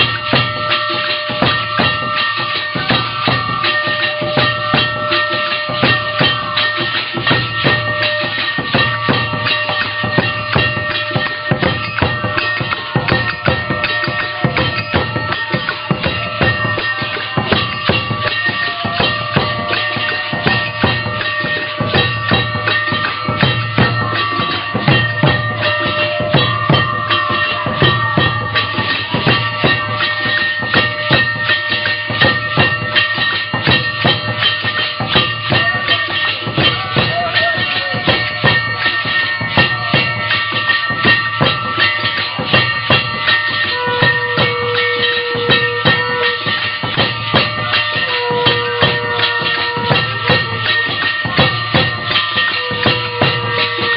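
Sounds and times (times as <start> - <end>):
bell-like tones: 0.0 - 53.9
fast even drumming: 0.0 - 53.9
held tone: 0.0 - 53.9
jingling ringing percussion: 0.0 - 53.9.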